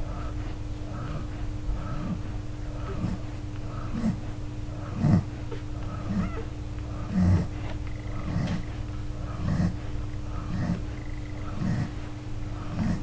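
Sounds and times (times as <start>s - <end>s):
dogs grunting: 0.0s - 13.0s.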